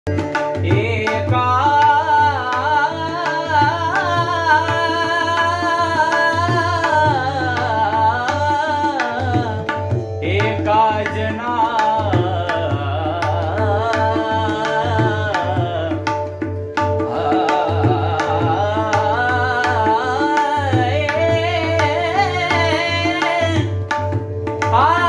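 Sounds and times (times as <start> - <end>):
person singing melody: 0.1 - 25.0
tabla playing: 0.1 - 25.0.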